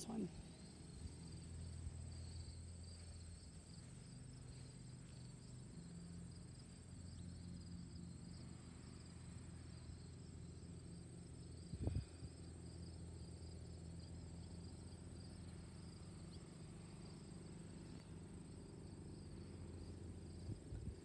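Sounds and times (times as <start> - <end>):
insect chorus: 0.0 - 21.0
low hum: 0.0 - 21.0.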